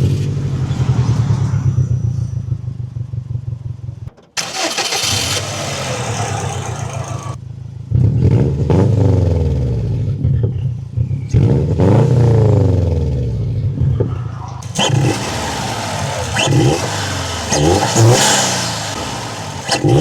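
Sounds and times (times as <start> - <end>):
car engine rumbling and revving: 0.0 - 20.0.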